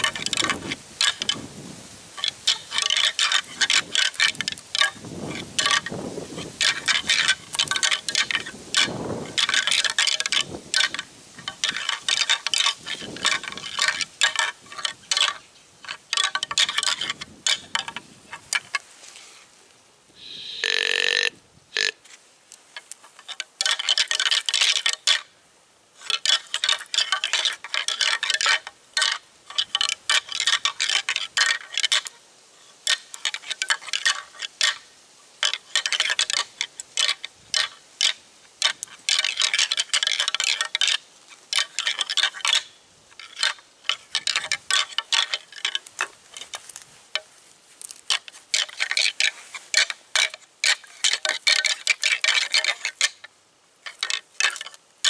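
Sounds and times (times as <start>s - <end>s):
antlers clacking and grinding: 0.0s - 1.4s, 2.2s - 18.8s, 22.8s - 25.3s, 26.0s - 32.2s, 32.8s - 34.8s, 35.4s - 47.3s, 47.9s - 54.8s.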